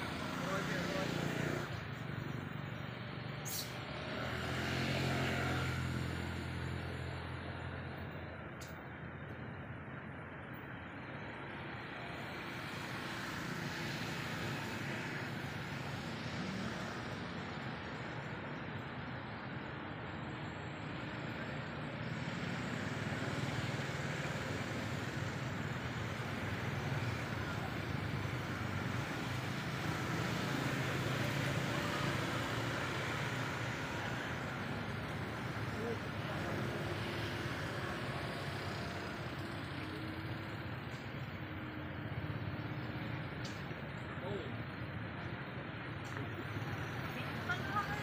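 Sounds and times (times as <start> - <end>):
rumbling outdoor noise with hiss: 0.0 - 48.0.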